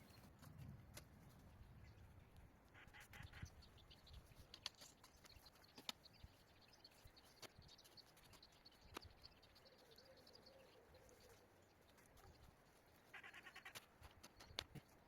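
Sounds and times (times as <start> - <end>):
faint high chirping: 2.8 - 15.0.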